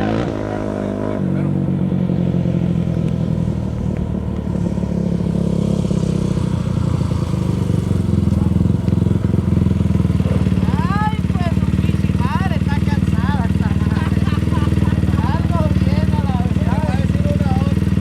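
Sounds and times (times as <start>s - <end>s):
small racing engine running: 0.0s - 18.0s.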